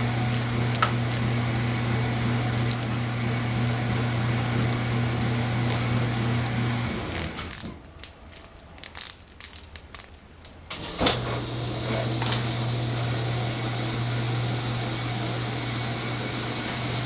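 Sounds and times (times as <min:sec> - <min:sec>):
power drill running: 0:00.0 - 0:07.6, 0:10.7 - 0:17.0.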